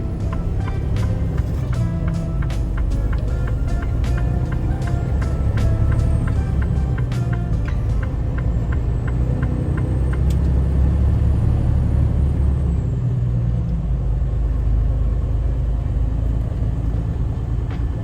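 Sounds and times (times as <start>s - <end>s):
road noise: 0.0s - 18.0s
truck engine rumble: 0.0s - 18.0s.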